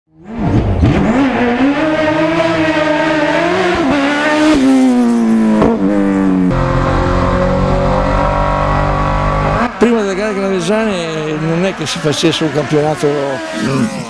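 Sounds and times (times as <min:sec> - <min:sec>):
race car engine revving: 0:00.2 - 0:14.0.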